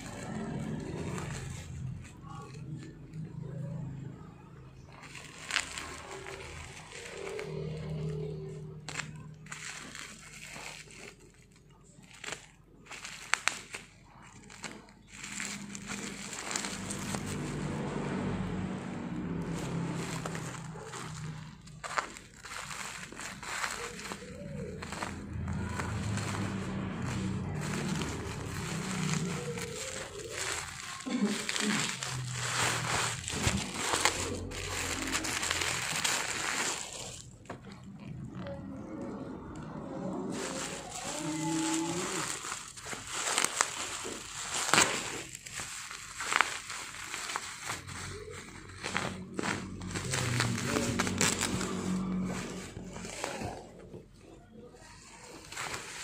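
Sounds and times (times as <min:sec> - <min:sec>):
plastic packaging crinkling: 0:00.0 - 0:56.0.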